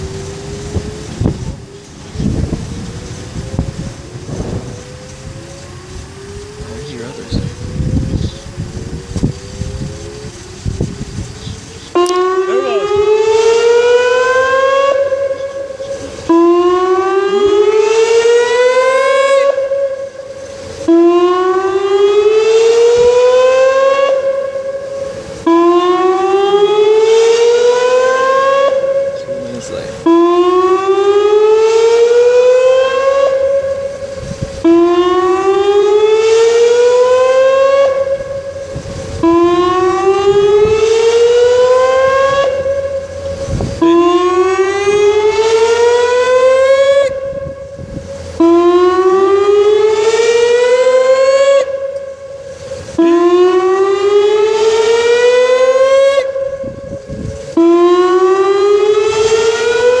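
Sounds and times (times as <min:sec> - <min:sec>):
warning siren rising tone: 0:00.0 - 1:00.0.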